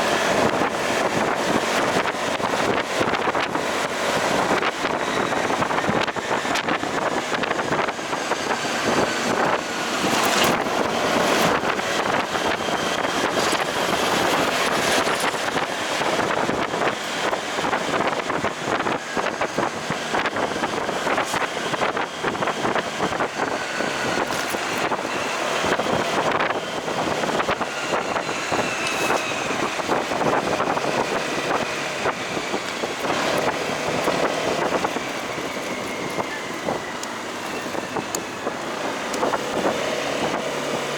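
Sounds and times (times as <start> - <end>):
motorcycle engine: 0.0 - 40.9
road noise: 0.0 - 40.9
wind buffeting microphone: 0.0 - 40.9.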